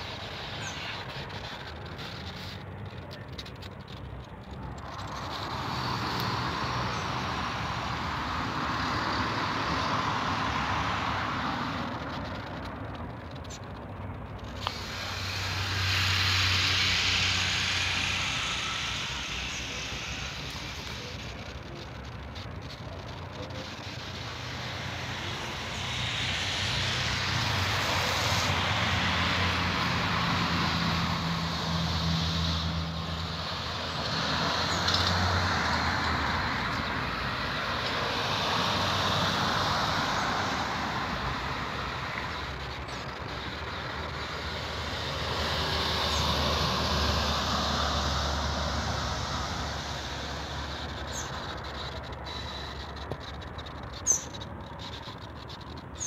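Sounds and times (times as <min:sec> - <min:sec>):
heavy engine humming: 0:00.0 - 0:56.0
road traffic passing: 0:00.0 - 0:56.0.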